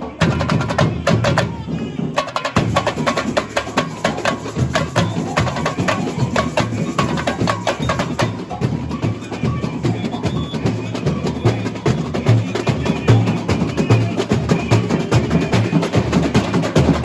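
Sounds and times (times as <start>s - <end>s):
snare drums rattling: 0.0s - 17.0s
sharp high percussion strokes: 2.2s - 17.0s.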